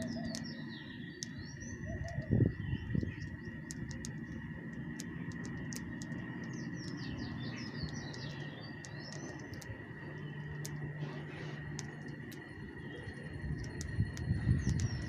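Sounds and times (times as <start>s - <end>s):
sharp clicks: 0.0s - 15.0s
small birds chirping: 0.0s - 15.0s
steady high whine: 0.0s - 15.0s.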